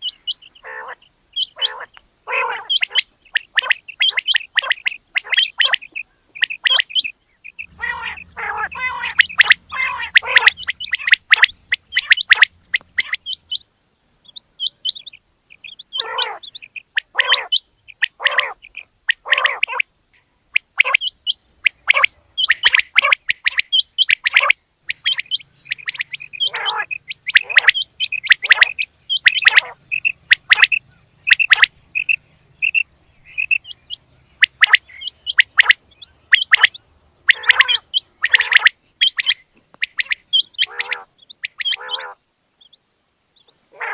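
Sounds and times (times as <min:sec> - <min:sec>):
quail chirping calls: 0:00.0 - 0:19.9, 0:20.5 - 0:42.8, 0:43.4 - 0:43.9.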